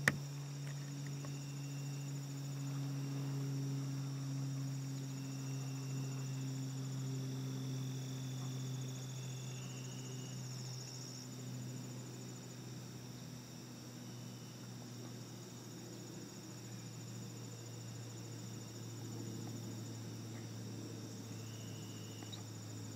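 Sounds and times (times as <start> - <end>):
insects trilling: 0.0 - 22.9
low hum: 0.0 - 22.9.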